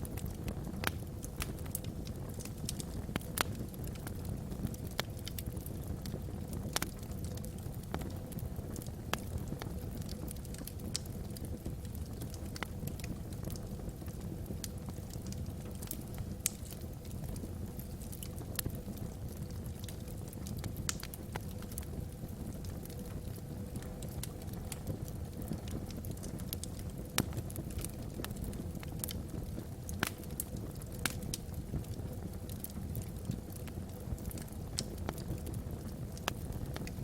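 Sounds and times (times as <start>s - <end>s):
burning logs crackling and popping: 0.0s - 37.0s
low rumble of flames: 0.0s - 37.0s.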